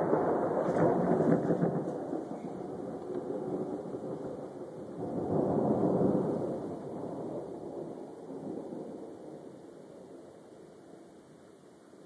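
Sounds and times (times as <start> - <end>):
thunder rumbling: 0.0 - 11.2.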